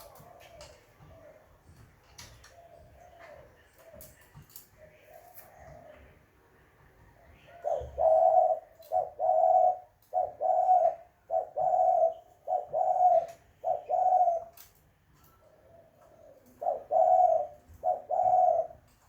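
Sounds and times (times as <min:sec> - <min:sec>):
dove cooing: 0:00.0 - 0:04.5, 0:05.1 - 0:06.2, 0:07.1 - 0:19.0.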